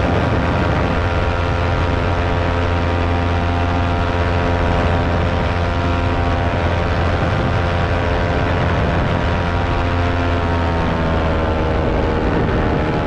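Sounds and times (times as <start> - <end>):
electric fan motor hum: 0.0 - 13.0.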